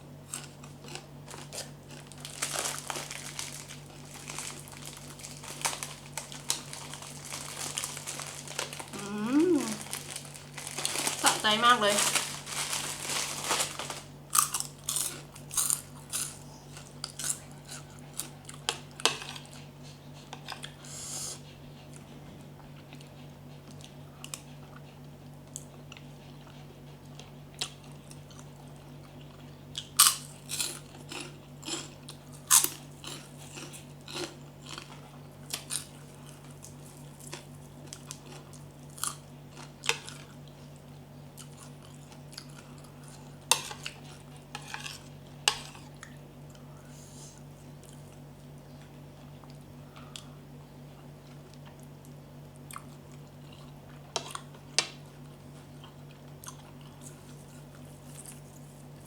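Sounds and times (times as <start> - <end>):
person chewing and crunching: 0.2 - 11.2, 12.4 - 19.7, 22.6 - 48.2, 49.2 - 59.0.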